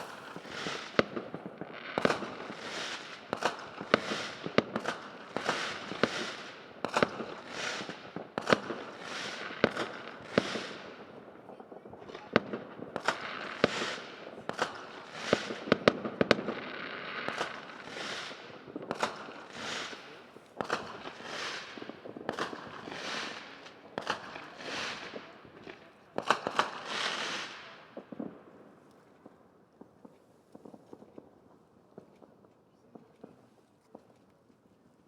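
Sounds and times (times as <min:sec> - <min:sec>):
fireworks bangs and cracks: 0:00.0 - 0:34.2
fireworks hissing and crackling: 0:00.0 - 0:34.3.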